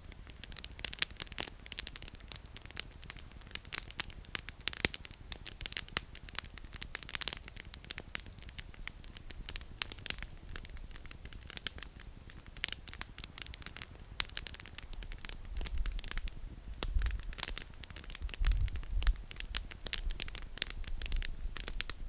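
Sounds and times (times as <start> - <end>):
campfire crackling and popping: 0.0 - 22.0
faint steady hiss: 0.0 - 22.0.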